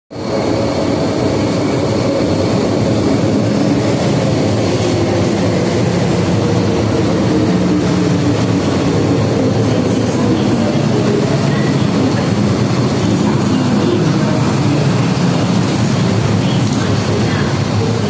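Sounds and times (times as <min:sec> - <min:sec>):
high train whine: 0:00.1 - 0:18.0
train wheels rumbling: 0:00.1 - 0:18.0.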